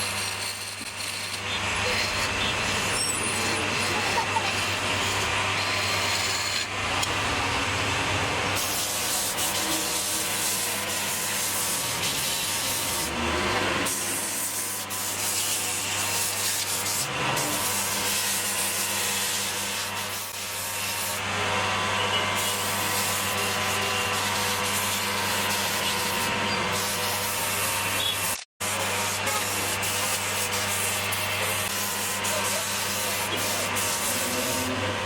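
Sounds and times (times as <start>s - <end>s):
sandpaper hissing on spinning wood: 0.0s - 6.7s, 8.5s - 21.3s, 22.2s - 34.9s
lathe motor hum: 0.0s - 35.0s.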